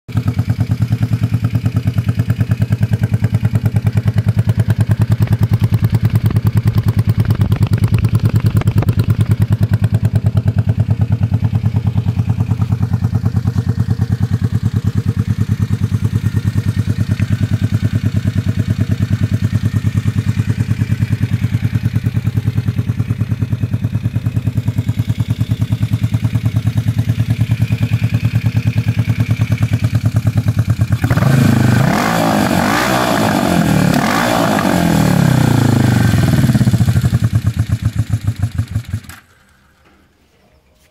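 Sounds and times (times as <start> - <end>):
motorcycle engine idling: 0.1 - 32.1, 33.2 - 39.8.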